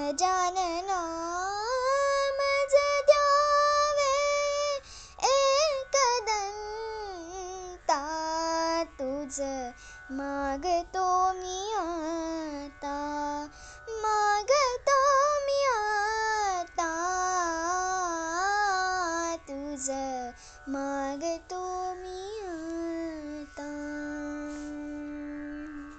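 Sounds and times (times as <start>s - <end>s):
girl singing devotional song: 0.0s - 25.9s.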